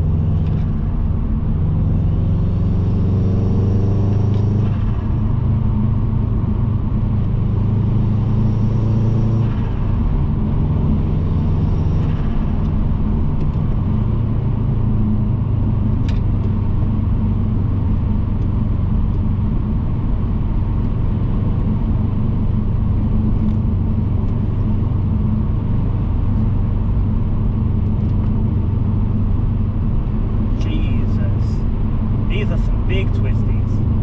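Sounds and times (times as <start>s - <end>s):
car engine running: 0.0s - 34.0s
road rumble: 0.0s - 34.0s.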